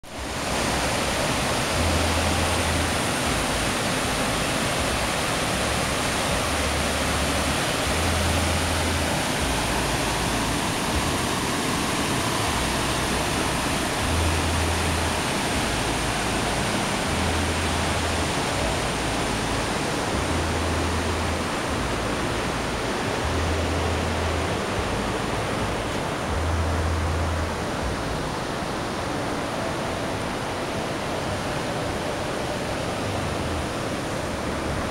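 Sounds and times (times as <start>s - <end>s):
river rapids rushing over rocks: 0.0s - 34.9s.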